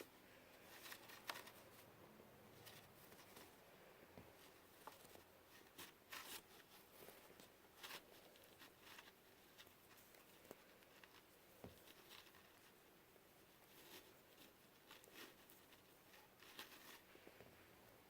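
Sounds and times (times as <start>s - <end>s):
yarn rustling and ticking: 0.0s - 17.4s.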